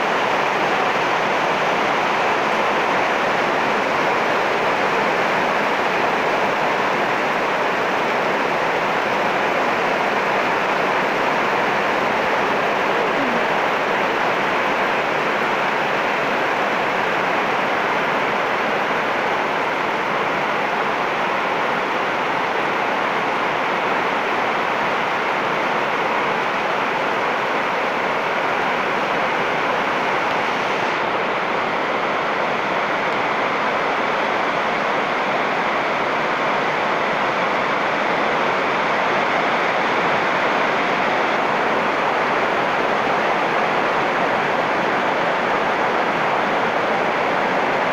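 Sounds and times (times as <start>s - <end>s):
heavy rain on leaves: 0.0s - 47.9s.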